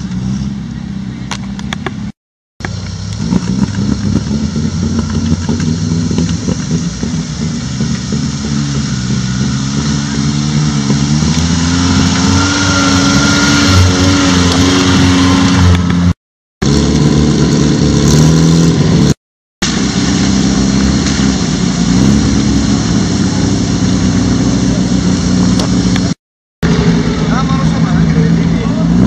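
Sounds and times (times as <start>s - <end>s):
car engine running under load: 0.0s - 29.0s.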